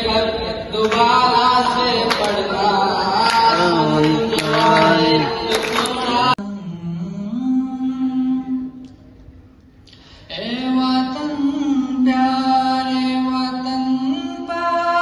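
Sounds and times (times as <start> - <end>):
man singing over loudspeakers: 0.0 - 8.9, 10.3 - 15.0.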